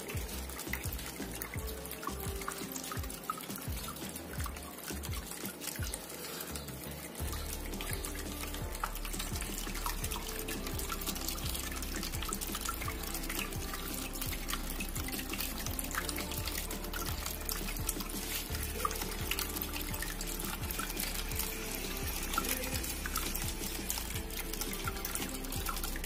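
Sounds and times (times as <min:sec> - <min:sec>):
background music: 0:00.0 - 0:26.0
water trickling and splashing: 0:00.0 - 0:26.0.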